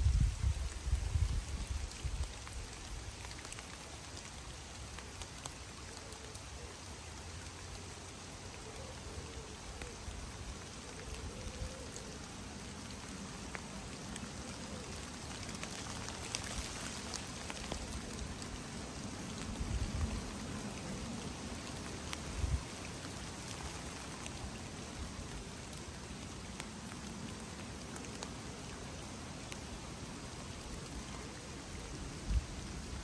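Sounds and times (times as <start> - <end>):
rain falling on river and leaves: 0.0 - 33.0.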